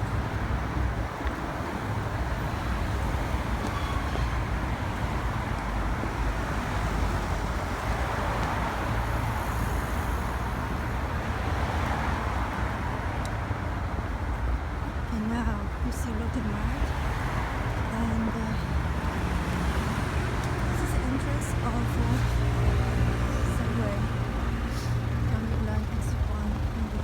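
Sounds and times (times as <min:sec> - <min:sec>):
city road traffic: 0:00.0 - 0:27.0.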